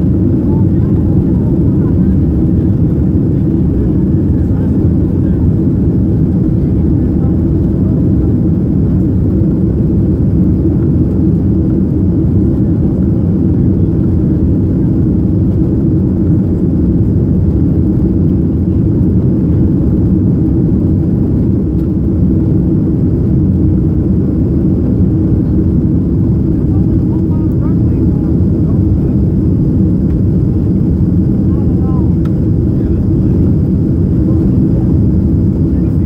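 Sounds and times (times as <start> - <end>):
jet engines and rushing air: 0.0 - 36.0.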